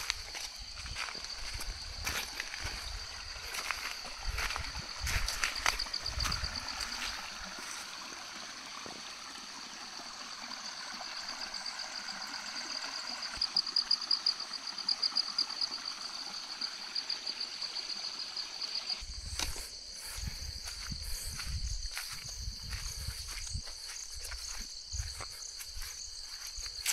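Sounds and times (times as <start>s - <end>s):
insects trilling: 0.0s - 26.9s.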